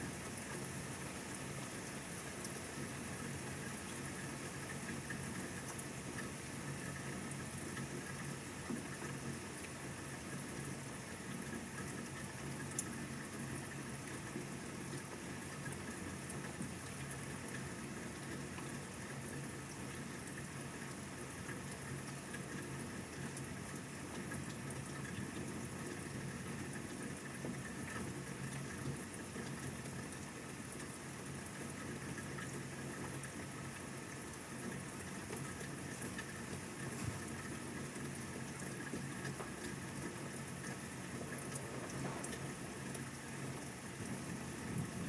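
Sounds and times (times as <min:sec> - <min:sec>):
steady rain falling: 0:00.0 - 0:45.0
faint taps of raindrops: 0:03.4 - 0:45.0.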